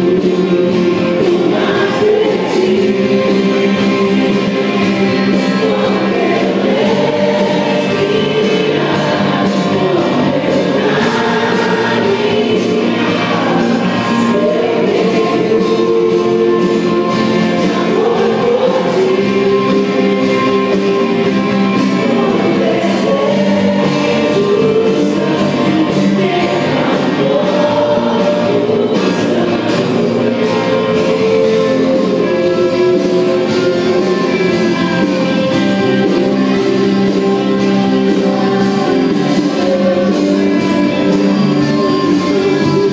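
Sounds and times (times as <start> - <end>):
instrumental backing: 0.0 - 42.9
voices singing together: 0.0 - 42.9.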